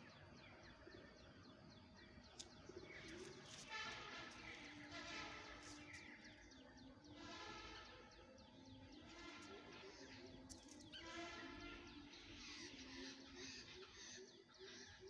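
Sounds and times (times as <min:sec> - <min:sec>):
low held bird calls: 0:00.0 - 0:15.0
small birds chirping: 0:00.0 - 0:15.0.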